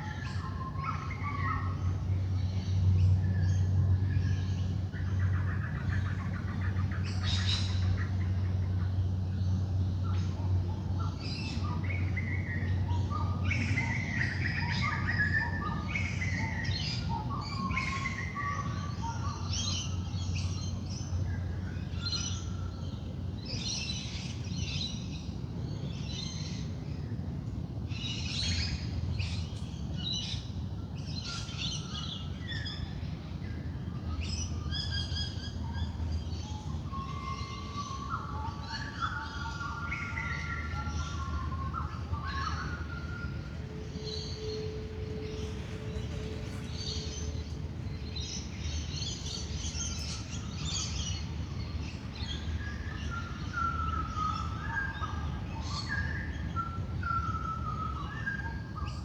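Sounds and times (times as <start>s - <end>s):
birds singing and calling: 0.0s - 59.0s
steady low hum: 0.0s - 59.0s.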